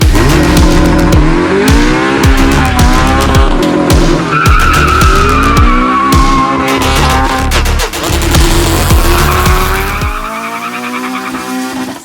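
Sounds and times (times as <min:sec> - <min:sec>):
intro music with heavy beat: 0:00.0 - 0:10.4
deep sliding bass drums: 0:00.0 - 0:10.6.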